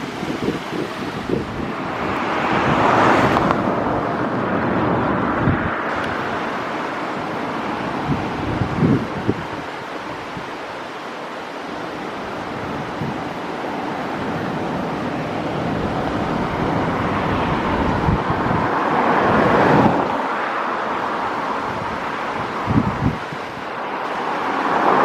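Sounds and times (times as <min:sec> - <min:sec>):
wind buffeting microphone: 0:00.0 - 0:10.8, 0:11.5 - 0:25.0
surf rushing: 0:00.0 - 0:25.0.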